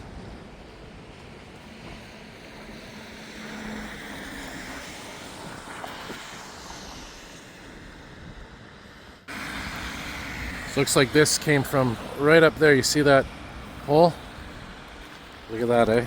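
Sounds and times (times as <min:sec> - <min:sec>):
strong gusting wind: 0:00.0 - 0:16.0.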